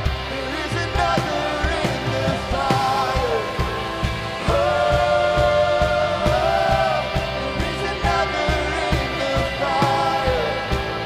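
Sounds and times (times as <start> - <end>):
steady drum beat: 0.0 - 11.0
worship band music: 0.0 - 11.0.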